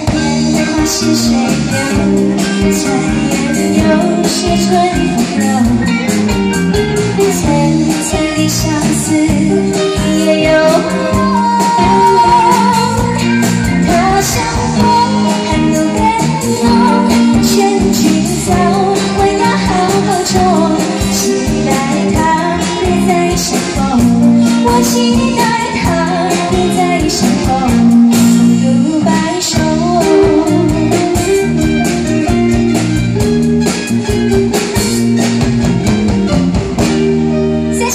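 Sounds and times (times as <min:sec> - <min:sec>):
woman singing into a microphone: 0:00.0 - 0:06.2, 0:07.0 - 0:31.7
electric guitars: 0:00.0 - 0:37.9
keyboard: 0:00.0 - 0:37.9.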